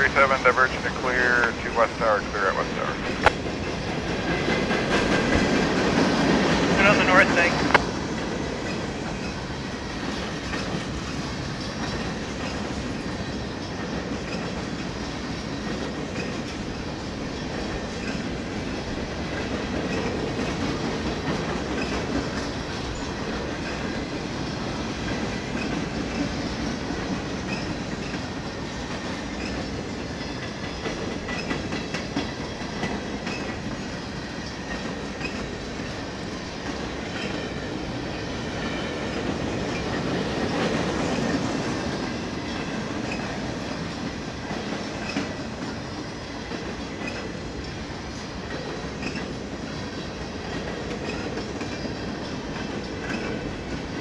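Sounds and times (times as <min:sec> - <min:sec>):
train rumble: 0:00.0 - 0:54.0
train wheels clacking: 0:00.0 - 0:54.0.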